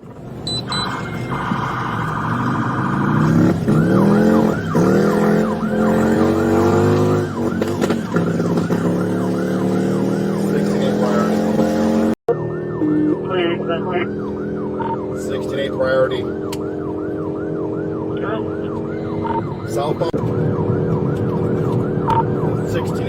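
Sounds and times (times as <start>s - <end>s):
vehicle engine revving: 0.0s - 23.0s
police siren: 0.4s - 23.0s.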